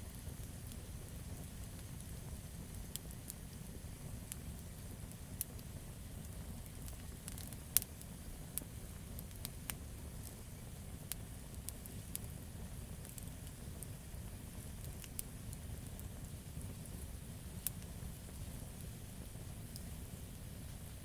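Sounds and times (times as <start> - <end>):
campfire crackling: 0.1 - 21.0.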